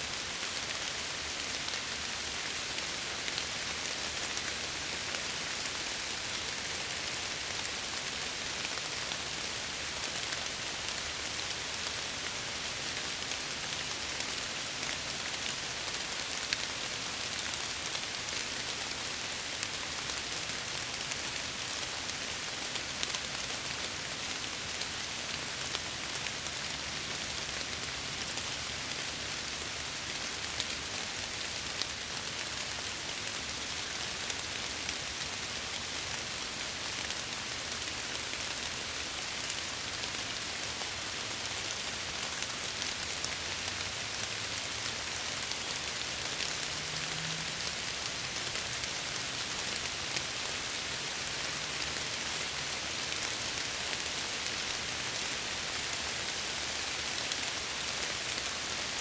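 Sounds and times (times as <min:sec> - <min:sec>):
rain falling: 0:00.1 - 0:59.0.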